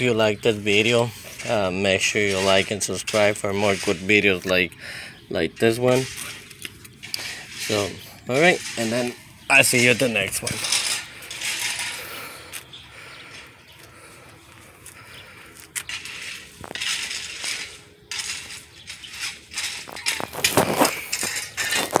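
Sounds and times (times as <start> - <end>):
rustling and scraping handling: 0.0 - 22.0.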